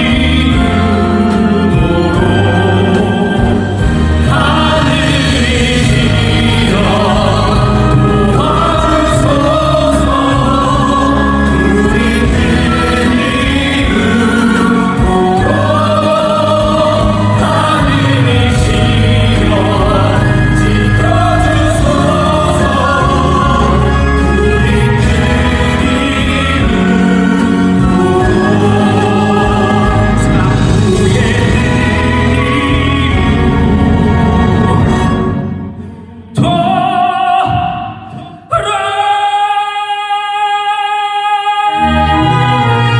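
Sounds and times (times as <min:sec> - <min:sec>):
instrumental accompaniment: 0:00.0 - 0:38.5
choir singing long held notes: 0:00.0 - 0:42.9.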